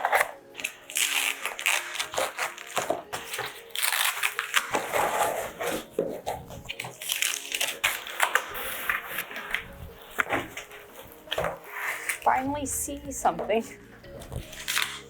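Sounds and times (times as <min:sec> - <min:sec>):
cardboard and packing rustling: 0:00.0 - 0:15.0.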